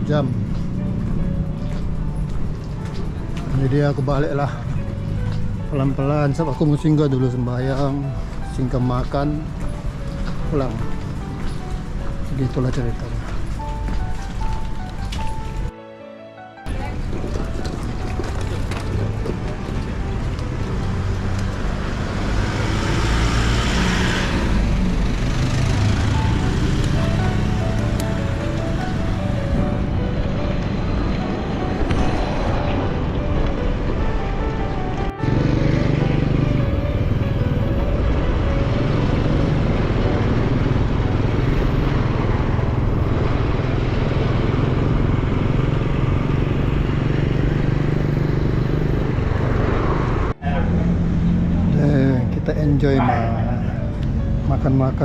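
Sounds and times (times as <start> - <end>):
vehicle passing on road: 0.0 - 15.7, 16.7 - 55.0.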